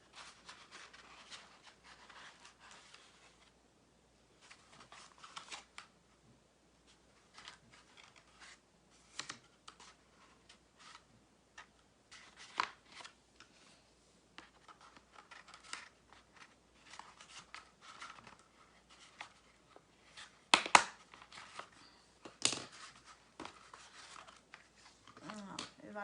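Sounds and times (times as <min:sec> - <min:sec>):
crumpled paper rustling: 0:00.0 - 0:03.5, 0:04.4 - 0:05.9, 0:06.9 - 0:13.2, 0:14.4 - 0:26.0.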